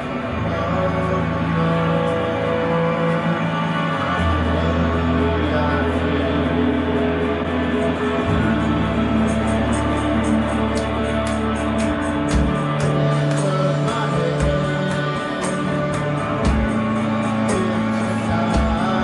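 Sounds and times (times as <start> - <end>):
bass notes: 0.0 - 19.0
guitar: 0.0 - 19.0.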